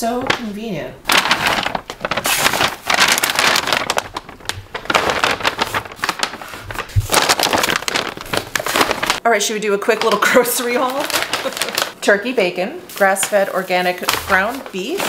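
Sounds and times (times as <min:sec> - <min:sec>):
paper bags rustling: 0:00.1 - 0:09.2, 0:10.0 - 0:12.2, 0:12.9 - 0:15.0.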